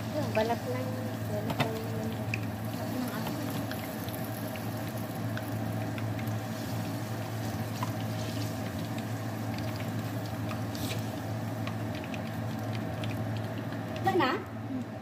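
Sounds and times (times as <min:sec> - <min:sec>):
food sizzling in hot oil: 0:00.0 - 0:14.4
steady low hum: 0:00.0 - 0:15.0.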